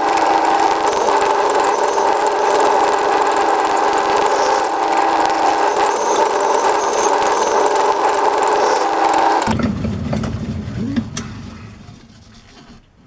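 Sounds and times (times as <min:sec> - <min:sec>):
machine tool humming: 0:00.0 - 0:11.7.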